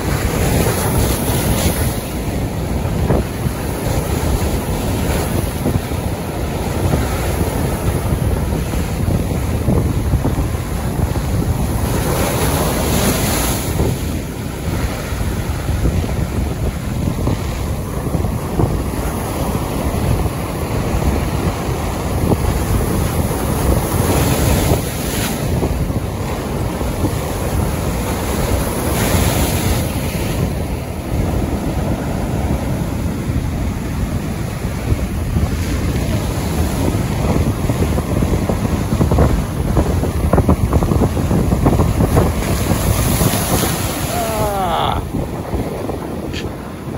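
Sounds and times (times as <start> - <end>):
strong wind buffeting microphone: 0.0 - 46.9.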